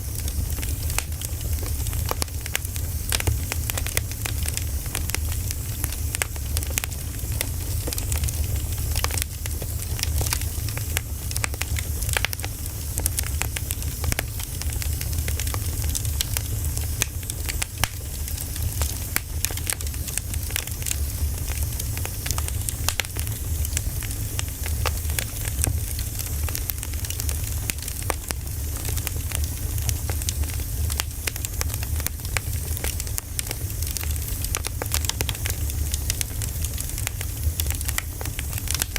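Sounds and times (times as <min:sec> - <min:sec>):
low fire rumble: 0:00.0 - 0:38.9
wood fire crackling and popping: 0:00.0 - 0:38.9.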